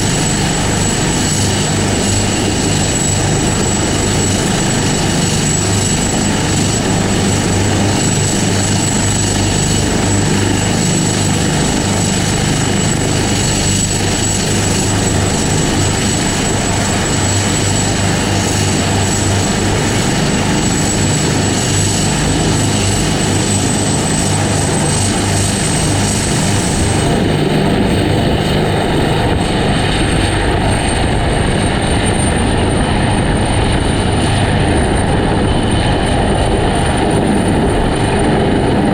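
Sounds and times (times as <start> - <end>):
helicopter engine rush: 0.0 - 38.9
high turbine whine: 0.0 - 38.9.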